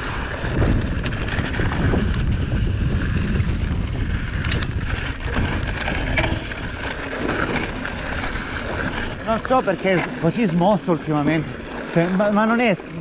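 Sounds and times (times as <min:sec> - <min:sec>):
bike clicks and rattles: 0:00.0 - 0:13.0
bike tyres rumbling: 0:00.0 - 0:13.0
wind buffeting microphone: 0:00.0 - 0:13.0.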